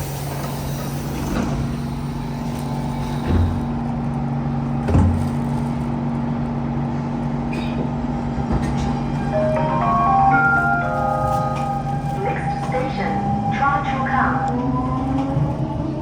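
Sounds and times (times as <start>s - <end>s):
train electrical hum: 0.0s - 16.0s.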